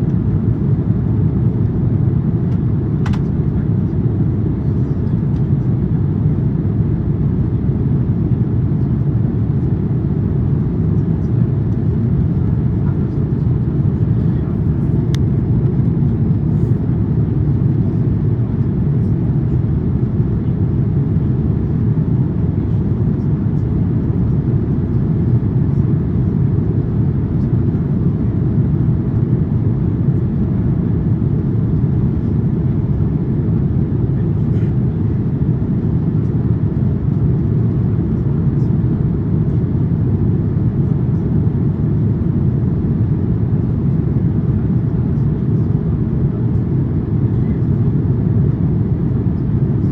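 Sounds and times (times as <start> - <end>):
airplane cabin roar: 0.0 - 49.9.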